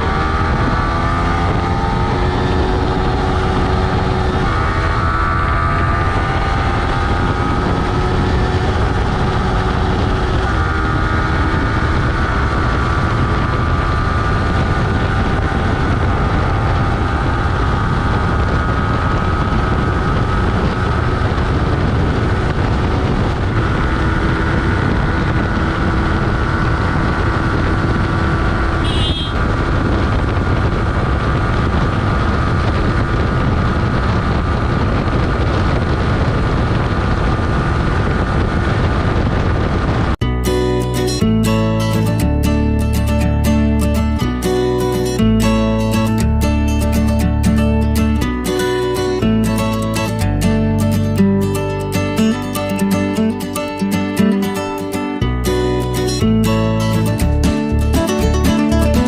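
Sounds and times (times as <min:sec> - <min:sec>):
motorcycle engine revving high: 0:00.0 - 0:59.0
wind and road rumble: 0:00.0 - 0:59.0.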